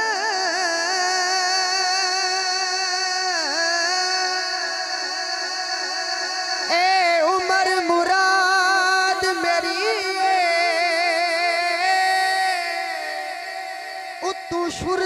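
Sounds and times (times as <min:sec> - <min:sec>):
man singing wordless held notes: 0:00.0 - 0:15.0.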